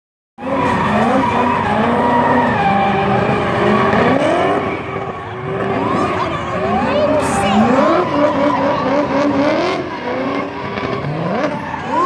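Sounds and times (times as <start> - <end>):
car engines revving hard: 0.4 - 12.0.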